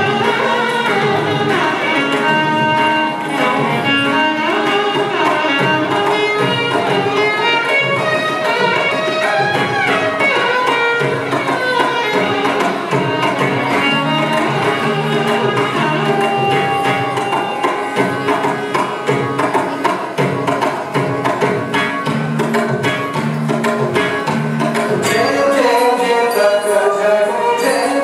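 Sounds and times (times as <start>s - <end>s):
violin melody with gliding notes: 0.0s - 22.4s
hand drum rhythm: 0.0s - 26.3s.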